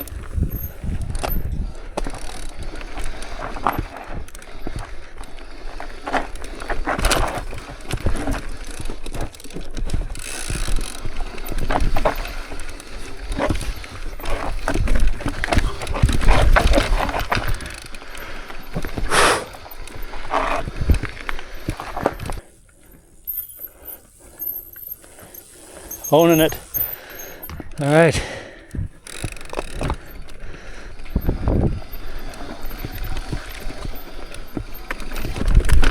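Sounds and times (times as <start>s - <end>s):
bike rattling over rocks: 0.0s - 35.9s.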